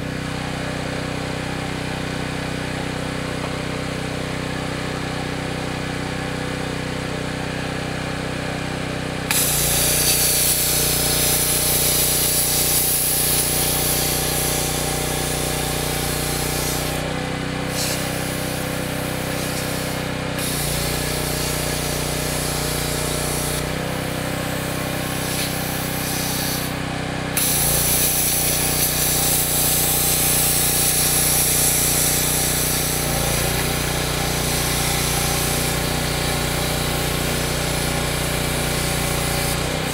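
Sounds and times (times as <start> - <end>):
power saw cutting steel: 0.0 - 39.9.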